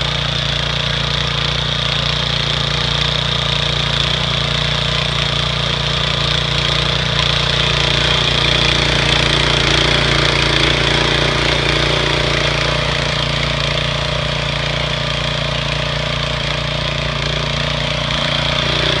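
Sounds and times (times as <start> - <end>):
cultivator engine running: 0.0 - 19.0.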